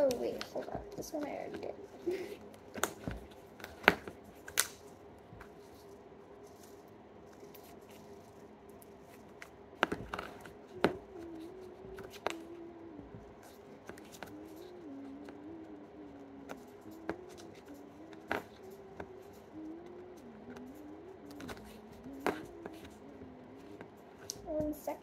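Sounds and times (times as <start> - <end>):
quiet handling noise: 0.0 - 25.0.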